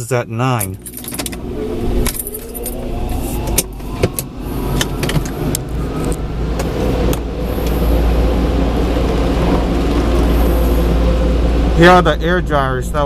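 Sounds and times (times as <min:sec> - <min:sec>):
car whine rising in pitch: 0:00.8 - 0:13.0
low rumble: 0:00.8 - 0:13.0.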